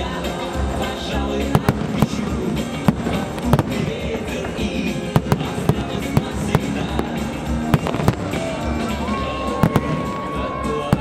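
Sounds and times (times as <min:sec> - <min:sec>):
fireworks bangs: 0:00.0 - 0:11.0
loud music with heavy bass: 0:00.0 - 0:11.0.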